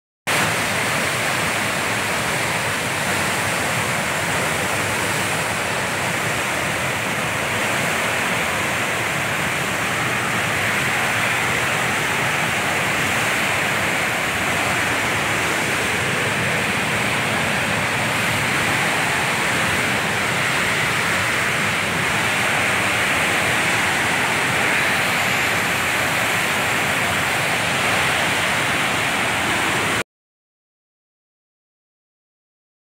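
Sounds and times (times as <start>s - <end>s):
waterfall rushing: 0.3s - 30.0s.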